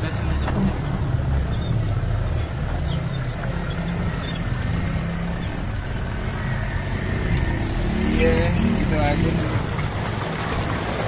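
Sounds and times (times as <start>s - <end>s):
off-road engine running at low revs: 0.0s - 11.0s.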